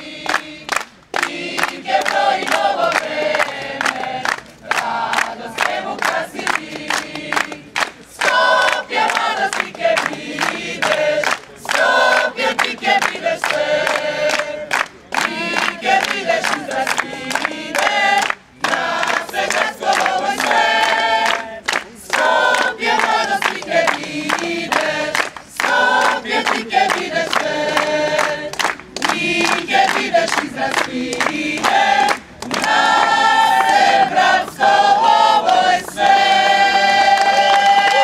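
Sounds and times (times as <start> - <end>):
mixed choir singing: 0.0 - 38.0.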